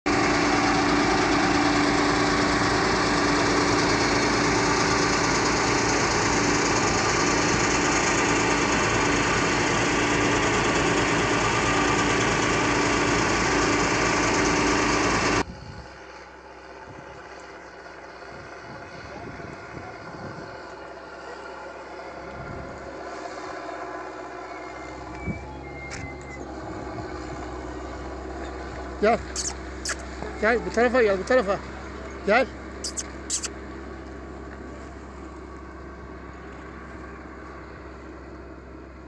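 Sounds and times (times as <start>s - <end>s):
fire truck engine running: 0.1s - 39.0s
open-air background: 0.1s - 39.0s.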